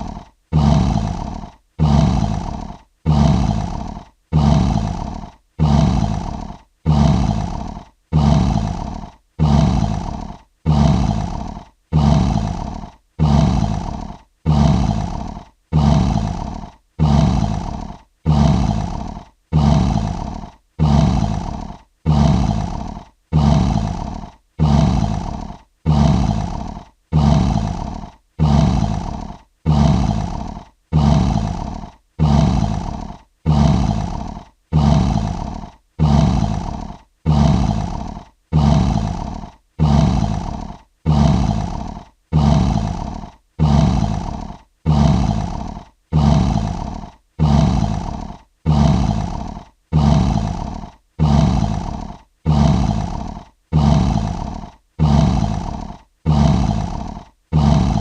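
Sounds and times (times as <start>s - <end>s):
lion roaring: 0.0s - 58.0s.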